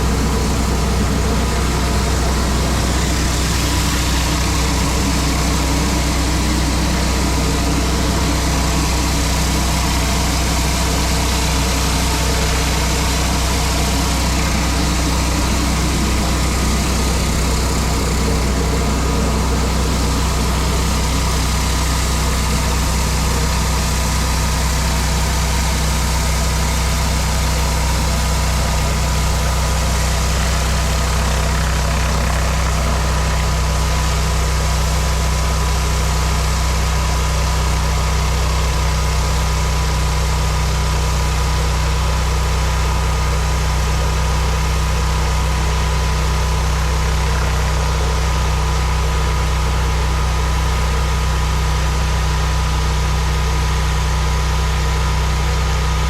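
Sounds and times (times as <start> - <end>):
pressure washer engine hum: 0.0 - 56.0.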